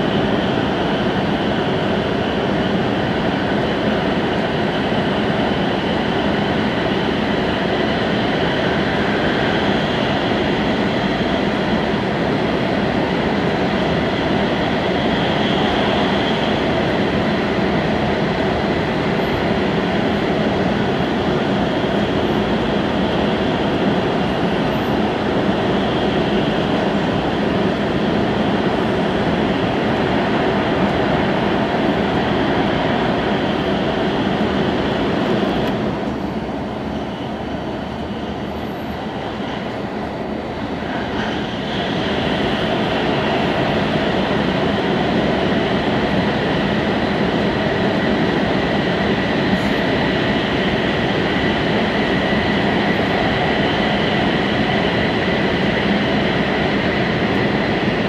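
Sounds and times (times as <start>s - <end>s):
train running at speed inside: 0.0s - 58.0s.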